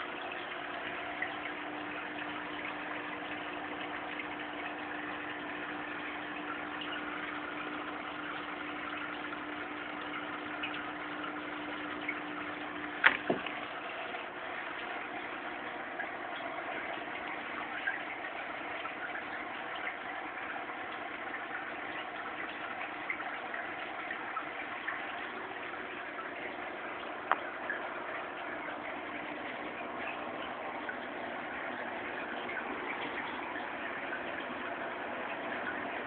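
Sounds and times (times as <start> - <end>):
aquarium pump humming: 0.0 - 36.0
bubbling water: 0.0 - 36.0.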